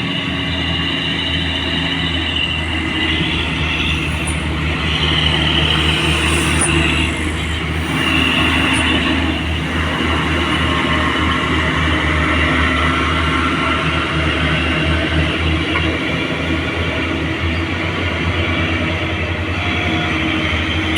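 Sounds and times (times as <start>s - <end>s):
diesel truck engine drone: 0.0s - 20.9s.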